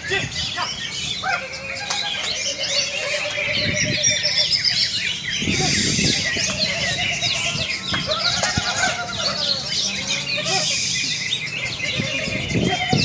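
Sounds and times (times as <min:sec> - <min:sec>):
birds singing chirps and whistles: 0:00.0 - 0:13.0.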